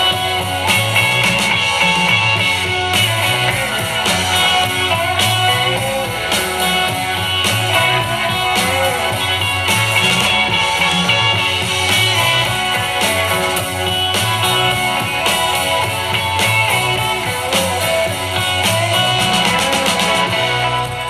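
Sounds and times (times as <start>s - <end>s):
guitar rock music: 0.0s - 21.0s.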